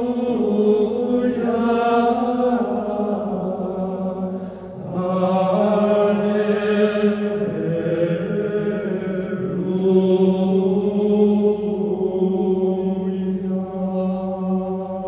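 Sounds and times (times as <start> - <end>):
chant-like vocal music: 0.0 - 15.0.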